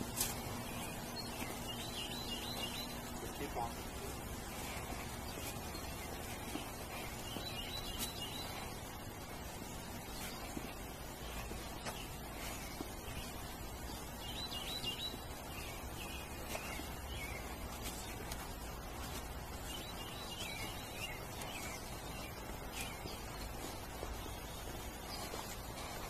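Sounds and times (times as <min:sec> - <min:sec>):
low background noise: 0:00.0 - 0:26.0
songbird twittering: 0:00.2 - 0:26.0.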